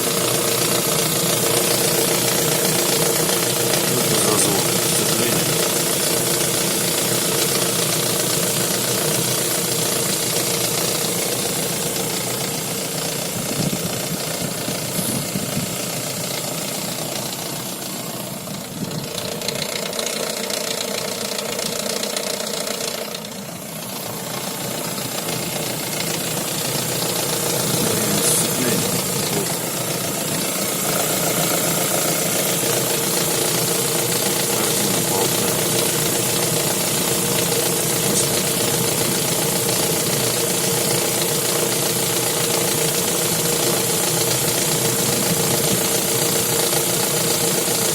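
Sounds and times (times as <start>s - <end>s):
car engine and drivetrain running: 0.0s - 47.9s.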